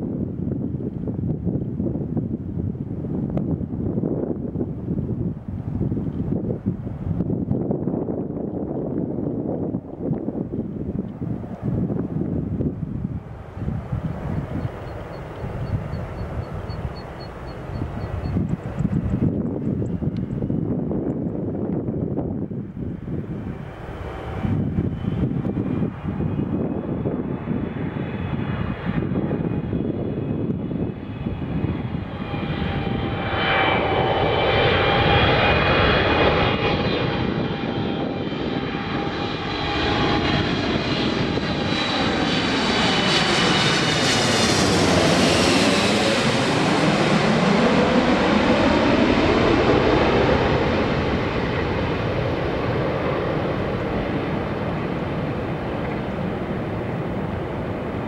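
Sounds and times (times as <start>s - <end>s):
jet airliner passing overhead: 0.0s - 58.0s.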